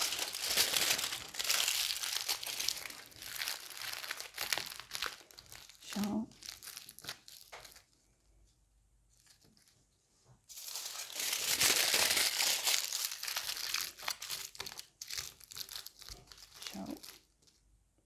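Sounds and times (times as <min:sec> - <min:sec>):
aluminium foil crinkling: 0:00.0 - 0:08.0, 0:10.5 - 0:17.6.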